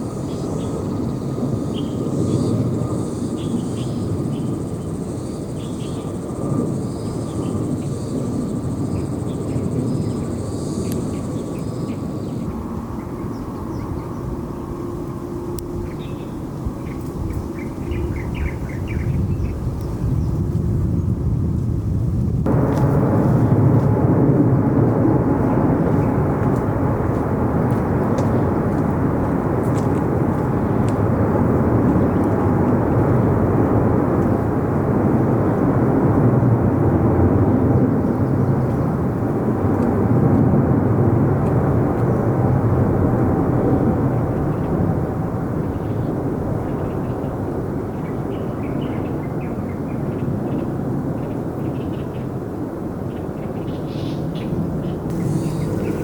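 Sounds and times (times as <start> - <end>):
jet airliner engines rumbling: 0.0 - 56.0.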